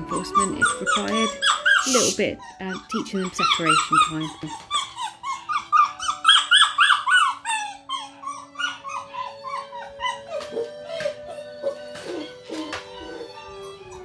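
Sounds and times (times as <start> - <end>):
background music with held notes: 0.0 - 14.0
puppy whining: 0.0 - 14.0.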